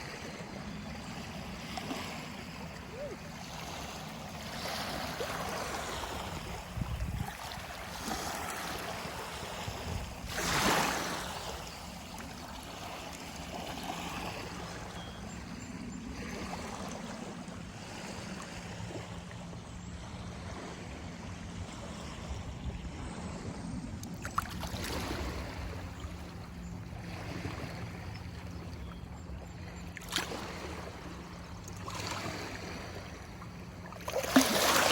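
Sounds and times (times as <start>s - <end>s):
river water flowing and lapping: 0.0s - 34.9s.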